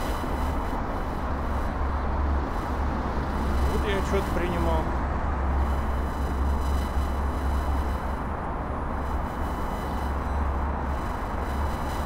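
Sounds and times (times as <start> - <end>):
city traffic noise: 0.0 - 12.0
low electrical hum: 0.0 - 12.0.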